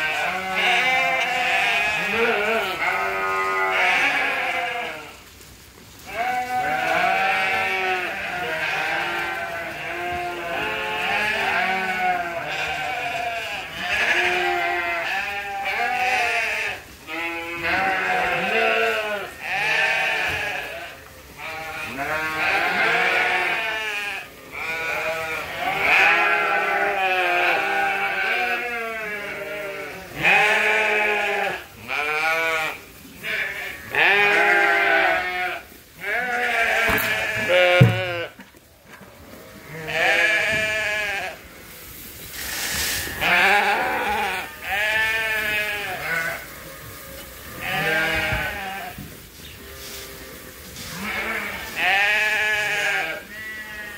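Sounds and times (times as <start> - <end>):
sheep bleating: 0.0 - 5.2, 6.1 - 38.4, 39.4 - 41.7, 42.5 - 49.0, 49.6 - 53.9.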